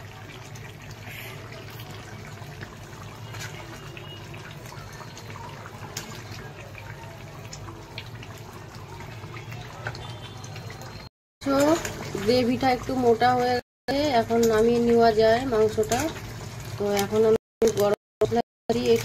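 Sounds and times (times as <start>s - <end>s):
curry bubbling in a pan: 0.0s - 19.0s.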